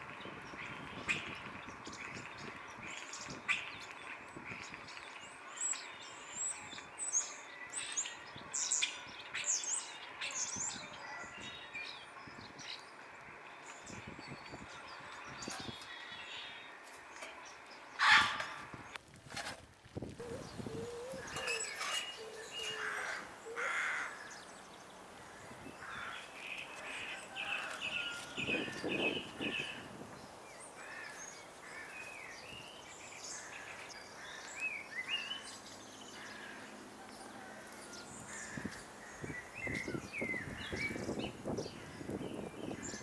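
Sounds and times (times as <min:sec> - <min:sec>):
birds calling and chirping: 0:00.0 - 0:19.0, 0:20.2 - 0:43.0.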